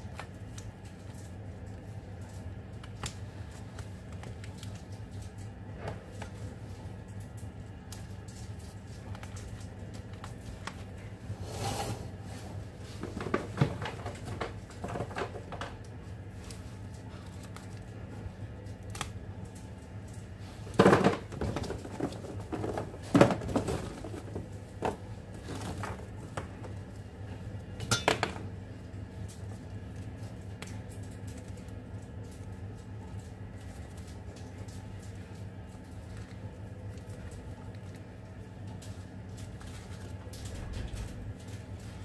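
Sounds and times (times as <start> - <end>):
taps clicks and rustles: 0.0 - 11.2, 12.9 - 42.0
steady low hum: 0.0 - 42.0.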